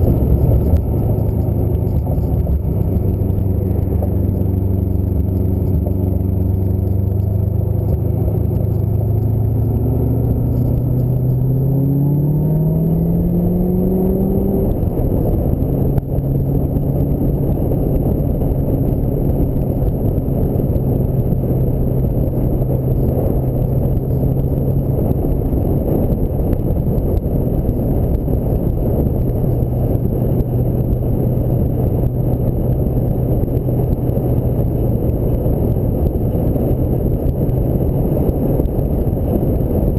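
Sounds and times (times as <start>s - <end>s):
car engine accelerating: 0.0s - 39.9s
wind and road noise: 0.0s - 39.9s.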